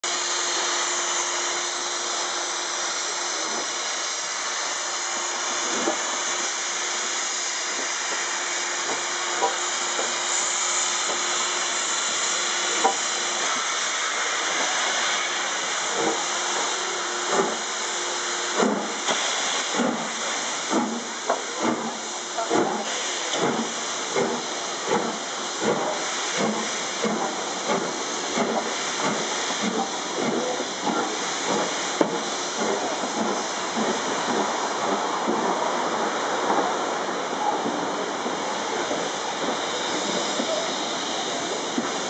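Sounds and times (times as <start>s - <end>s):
steam hissing from locomotive: 0.0s - 42.0s
steam locomotive exhaust chuffs: 0.0s - 42.0s.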